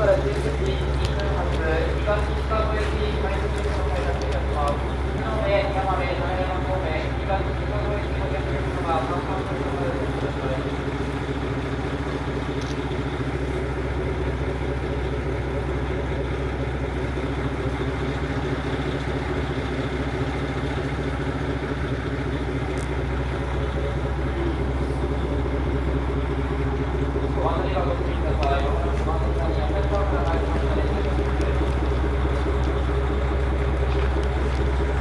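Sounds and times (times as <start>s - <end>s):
diesel railcar engine idling: 0.0s - 35.0s.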